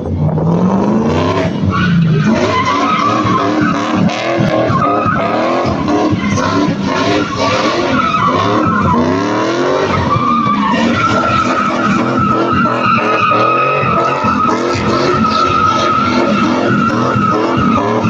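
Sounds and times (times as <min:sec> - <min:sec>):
car engine revving: 0:00.0 - 0:18.0
tyre squeal: 0:01.3 - 0:18.0.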